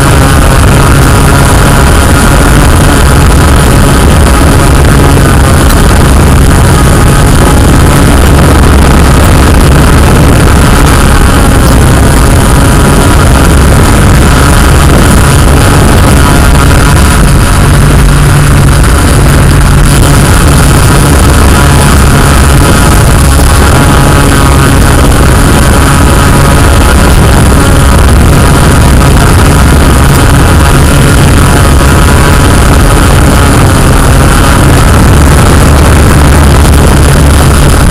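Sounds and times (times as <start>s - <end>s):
drone propellers whirring: 0.0s - 37.9s.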